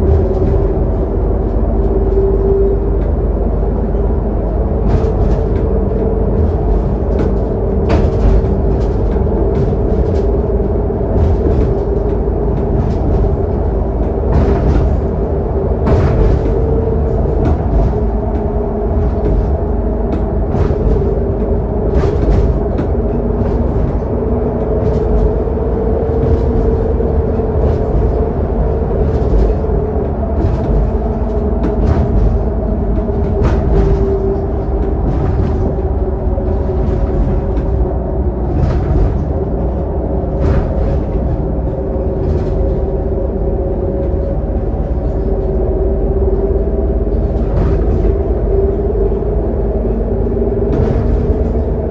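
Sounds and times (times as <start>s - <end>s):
bus engine drone: 0.0s - 51.9s
road rumble: 0.0s - 51.9s.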